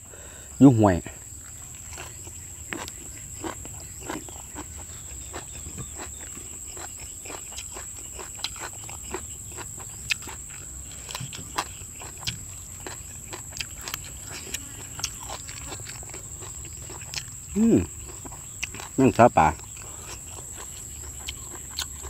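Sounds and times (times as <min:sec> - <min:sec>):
chewing crunchy greens: 0:00.7 - 0:22.0.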